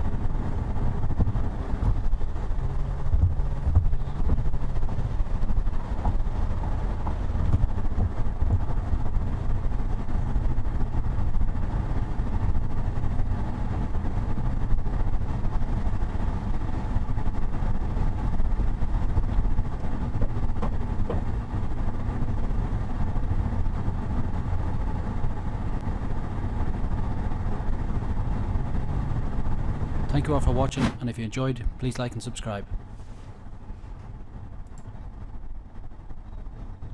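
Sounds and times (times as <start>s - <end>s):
car engine and tyres rumbling: 0.0s - 36.9s.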